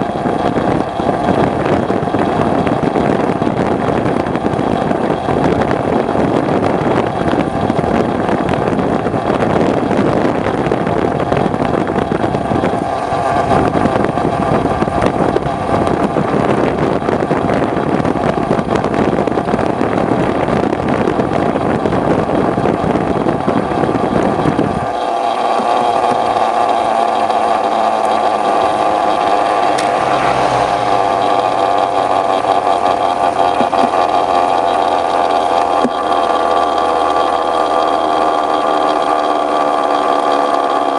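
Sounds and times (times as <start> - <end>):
two-stroke engine running: 0.0 - 40.9
wind rumble on microphone: 0.0 - 40.9.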